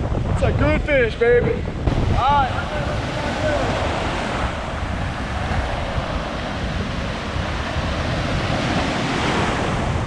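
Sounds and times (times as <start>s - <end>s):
wind buffeting microphone: 0.0s - 10.0s
ocean surf breaking: 1.7s - 10.0s.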